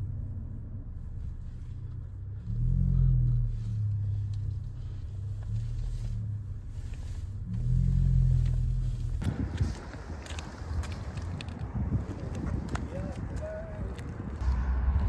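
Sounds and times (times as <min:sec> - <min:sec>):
car engine and exhaust rumble: 0:00.0 - 0:15.0.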